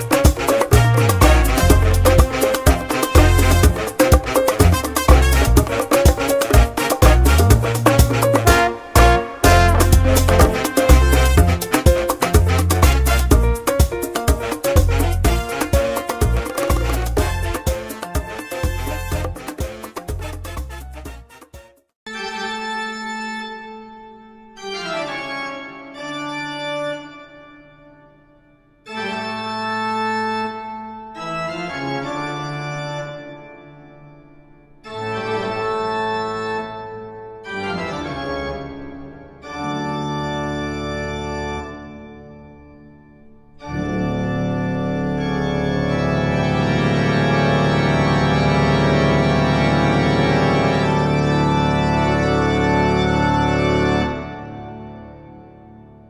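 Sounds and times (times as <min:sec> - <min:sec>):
organ chords: 0:00.0 - 0:21.3, 0:22.1 - 0:56.0.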